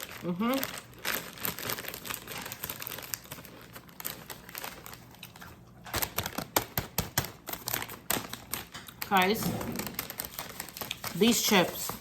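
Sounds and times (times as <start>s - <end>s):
potato chips crunching: 0.0s - 12.0s.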